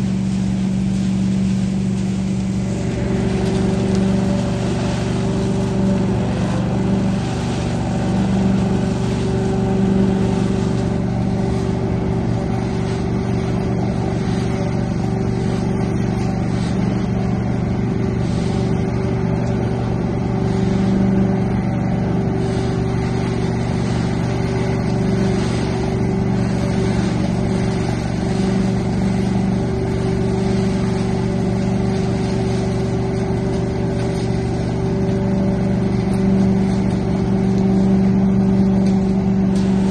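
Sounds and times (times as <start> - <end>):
leaf vacuum droning: 0.0 - 39.9.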